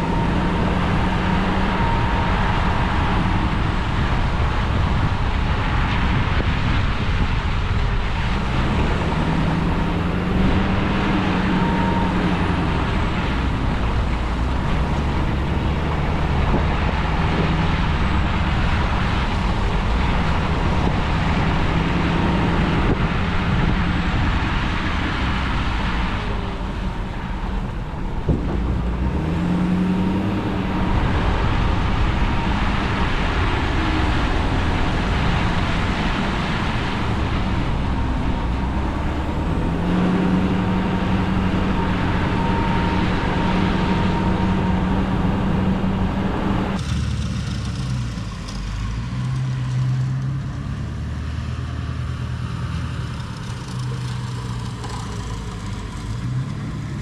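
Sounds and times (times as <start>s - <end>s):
road noise: 0.0s - 57.0s
truck engine running: 0.0s - 57.0s.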